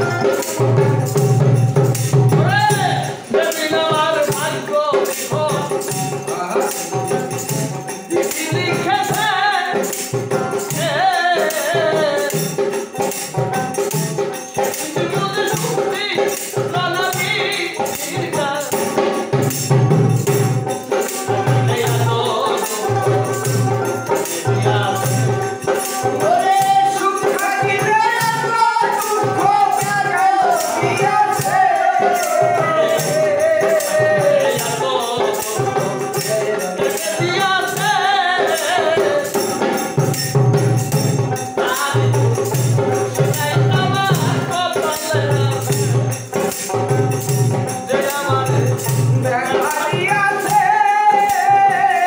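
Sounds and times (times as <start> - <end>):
hand cymbals struck in rhythm: 0.0 - 52.0
men singing: 0.0 - 52.0.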